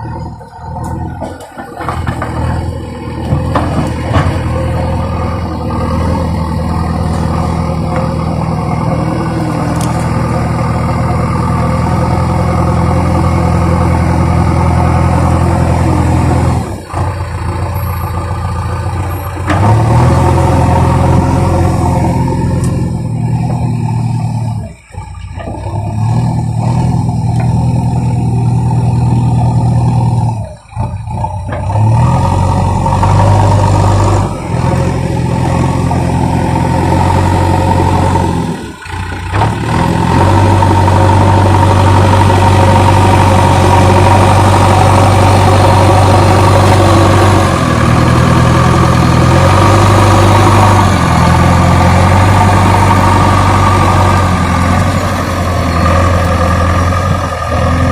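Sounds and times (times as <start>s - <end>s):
backhoe diesel engine revving: 0.0s - 57.9s.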